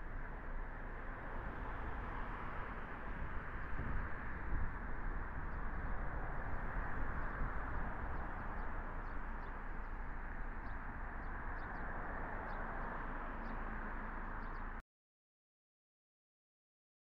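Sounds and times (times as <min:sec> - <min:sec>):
car driving rumble: 0:00.0 - 0:14.8.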